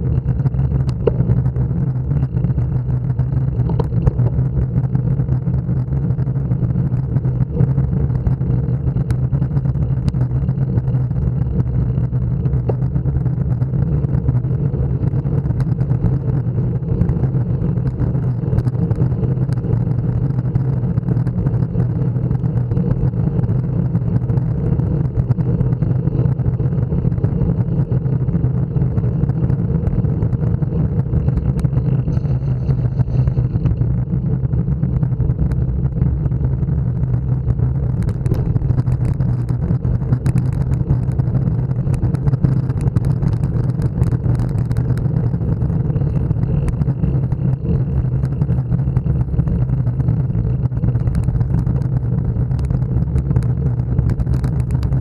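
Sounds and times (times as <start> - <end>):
road vibration rumble: 0.0 - 55.0.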